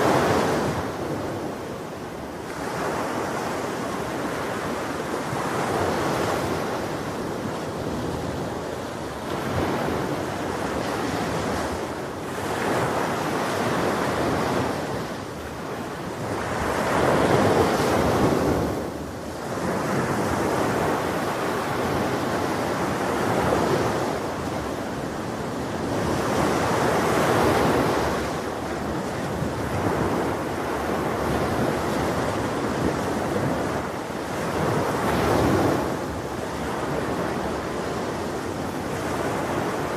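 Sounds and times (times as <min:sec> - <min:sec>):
ocean surf breaking: 0:02.5 - 0:39.9.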